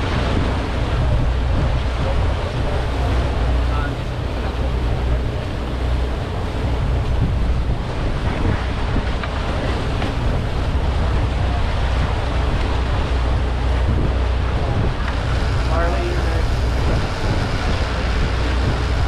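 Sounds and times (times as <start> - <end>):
boat engine humming: 0.0 - 19.0
water rushing along hull: 0.0 - 19.0
wind buffeting microphone: 0.0 - 19.0.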